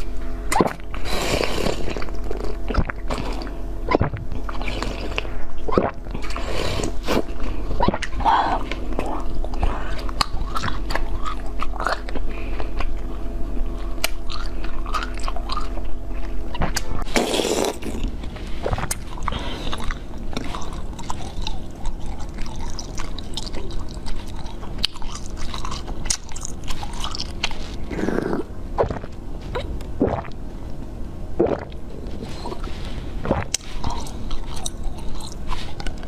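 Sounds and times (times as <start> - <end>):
biting and chewing food: 0.0 - 30.4, 31.4 - 36.0
wet mouth sounds: 0.5 - 13.0, 13.8 - 30.4, 31.4 - 36.0.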